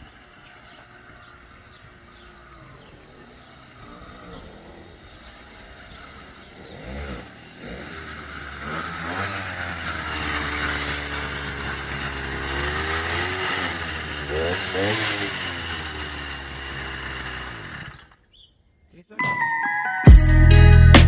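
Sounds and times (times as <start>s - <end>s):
two-stroke engine starting and revving: 0.0s - 18.6s.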